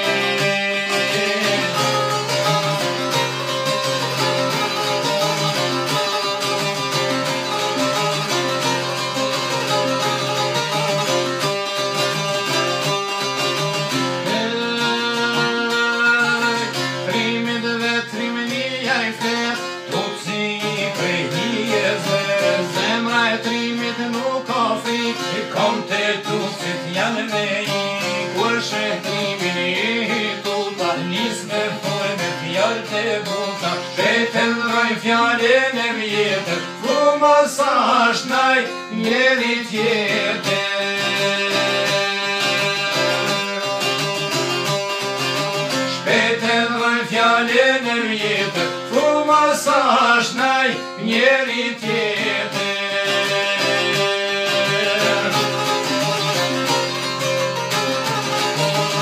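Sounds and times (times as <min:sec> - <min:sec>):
plucked lutes playing folk tune: 0:00.0 - 0:59.0.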